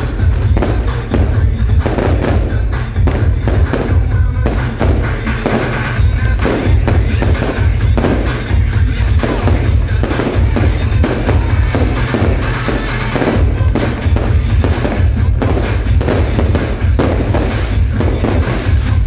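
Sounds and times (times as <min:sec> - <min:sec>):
fireworks bursting: 0:00.0 - 0:19.0
loud music with heavy bass: 0:00.0 - 0:19.0.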